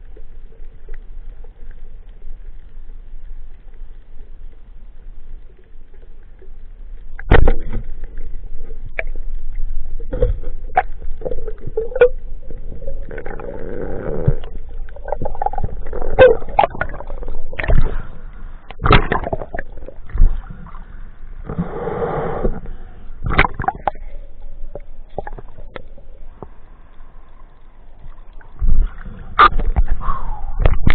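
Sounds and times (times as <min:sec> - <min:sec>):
underwater water movement: 0:00.0 - 0:30.9
muffled bubbling: 0:05.3 - 0:30.9.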